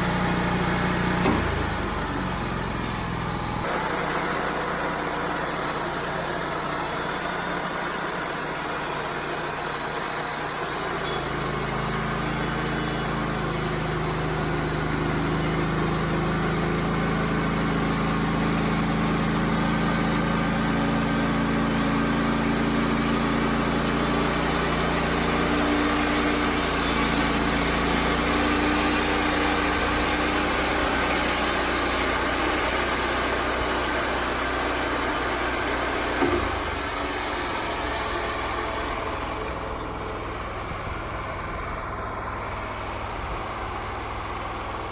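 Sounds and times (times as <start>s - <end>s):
sawmill running: 0.0s - 44.9s.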